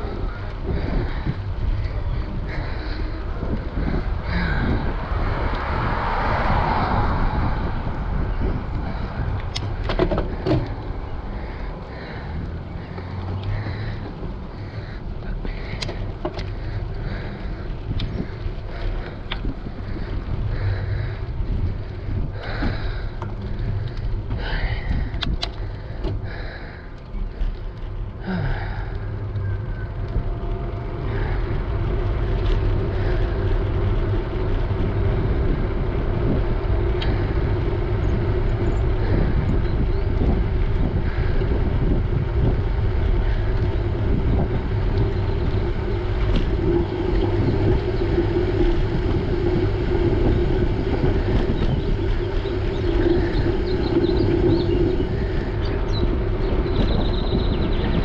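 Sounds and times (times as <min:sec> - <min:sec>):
bicycle tyres rolling on asphalt: 0:00.0 - 0:58.0
wind rushing over microphone: 0:00.0 - 0:58.0.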